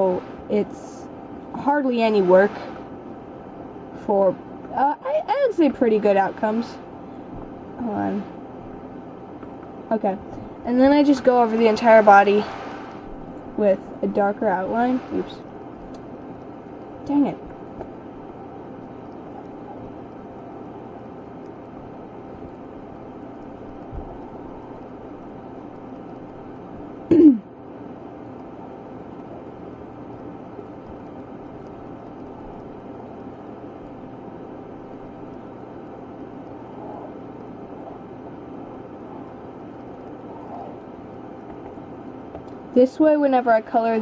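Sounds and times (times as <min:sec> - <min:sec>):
room hum and hiss: 0:00.0 - 0:44.0.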